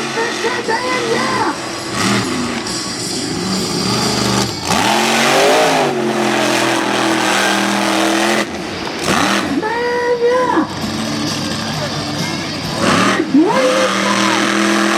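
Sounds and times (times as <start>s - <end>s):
truck engine revving: 0.0s - 14.9s.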